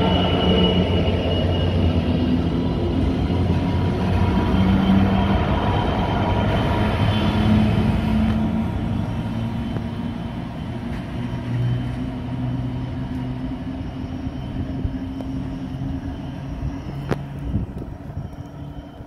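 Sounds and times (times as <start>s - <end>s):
locomotive engine droning: 0.0s - 19.0s
wagons rumbling on rails: 0.0s - 19.0s.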